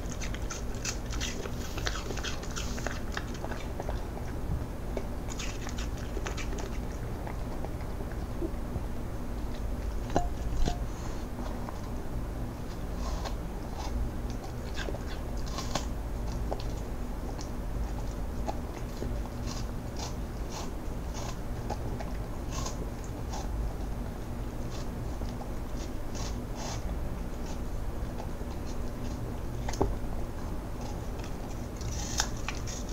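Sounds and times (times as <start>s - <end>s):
dog crunching apple: 0.0s - 32.9s.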